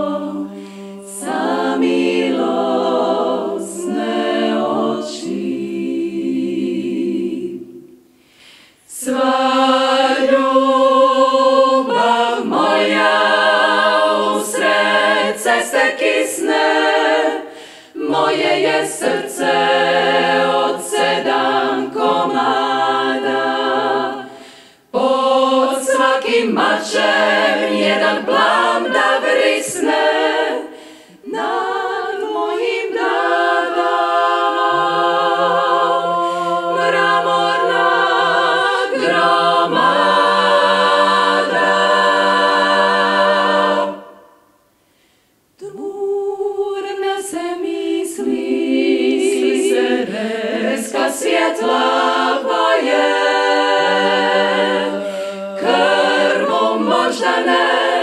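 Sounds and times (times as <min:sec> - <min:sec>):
women singing a cappella harmony: 0:00.0 - 0:44.8, 0:45.5 - 0:58.0.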